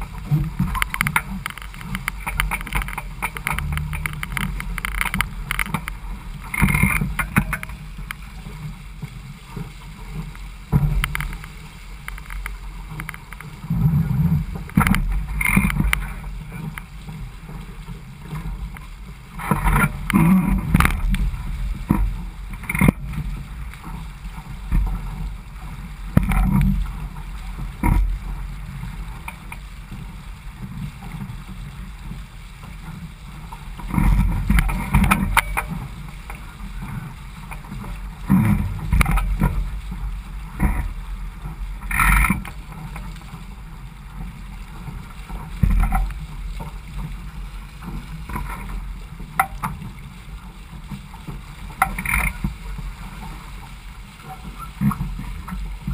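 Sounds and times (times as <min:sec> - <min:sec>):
hull slapping waves: 0:00.0 - 0:55.9
water rushing along hull: 0:00.0 - 0:55.9.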